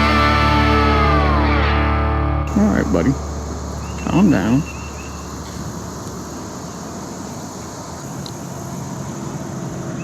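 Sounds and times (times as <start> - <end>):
low even outdoor rumble: 0.0 - 10.0.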